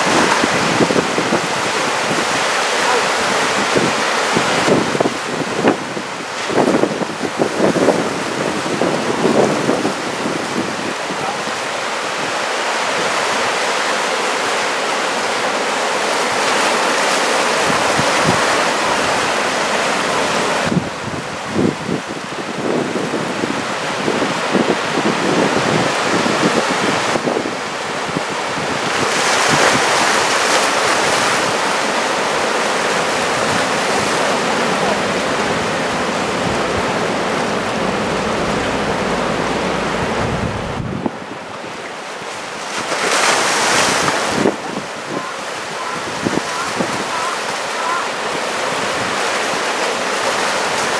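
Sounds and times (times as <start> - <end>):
wind buffeting microphone: 0.0 - 13.4, 17.5 - 43.0, 43.6 - 50.9
ocean surf breaking: 0.0 - 50.9.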